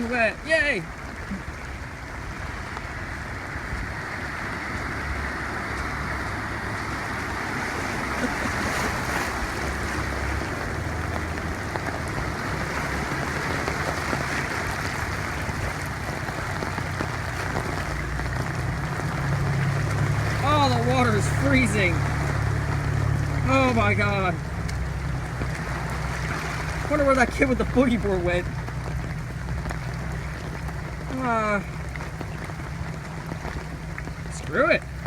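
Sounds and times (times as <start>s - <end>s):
heavy rain and running water: 0.0s - 35.0s
wind rumble on microphone: 0.0s - 35.0s.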